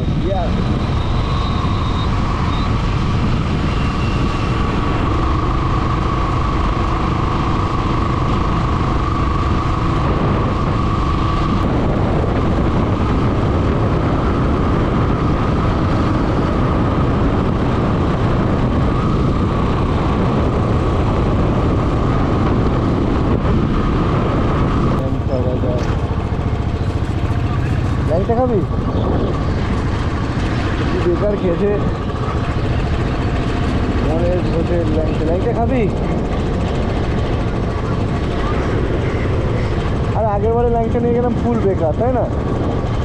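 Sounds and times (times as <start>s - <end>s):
motorcycle cruising: 0.0s - 43.0s
wind rush on microphone: 0.0s - 43.0s.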